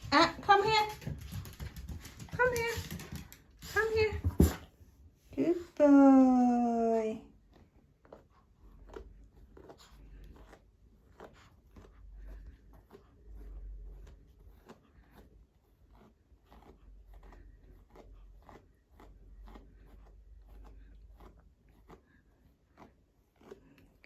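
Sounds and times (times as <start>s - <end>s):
brush scratching through fur: 0.0s - 4.7s, 7.3s - 24.0s.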